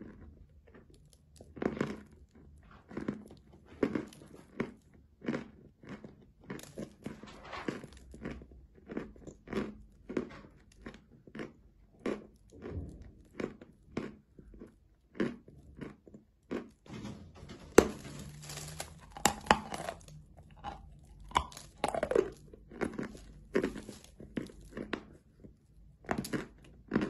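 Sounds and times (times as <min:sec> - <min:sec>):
chewing and crunching chalk: 0:00.0 - 0:07.2, 0:07.8 - 0:16.8, 0:18.0 - 0:27.0.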